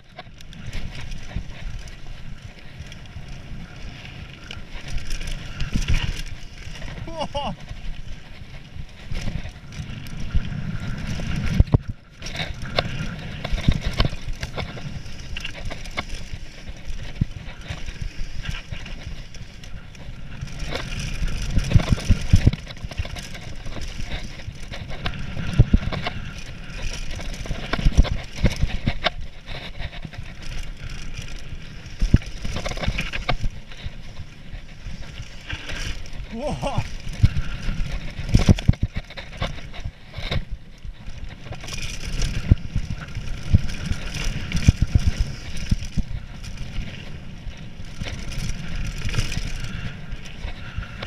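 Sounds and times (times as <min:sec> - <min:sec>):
bike knocking and rattling: 0:00.0 - 0:51.0
bike tyres rumbling on trail: 0:00.0 - 0:51.0.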